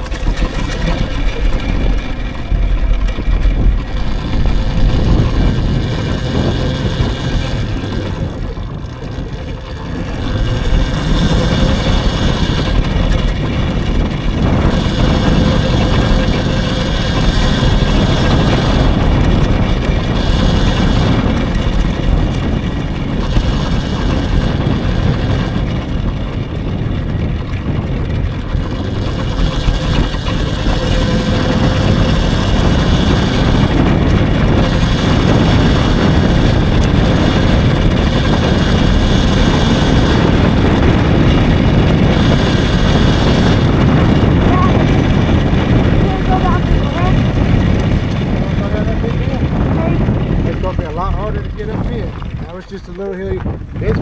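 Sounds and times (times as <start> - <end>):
wind and road noise rumbling: 0.0 - 54.0.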